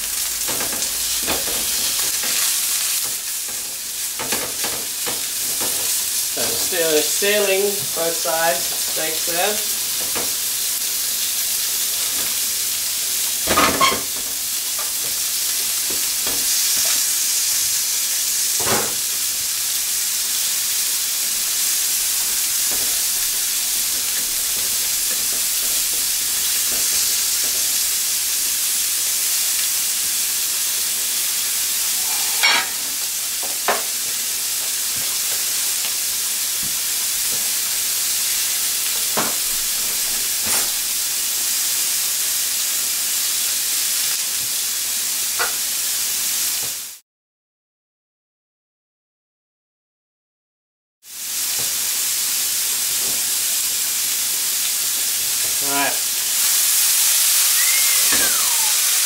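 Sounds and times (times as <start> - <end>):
potatoes frying in oil: 0.0 - 47.0, 51.0 - 59.0
steaks sizzling in a frying pan: 0.0 - 47.0, 51.1 - 59.0.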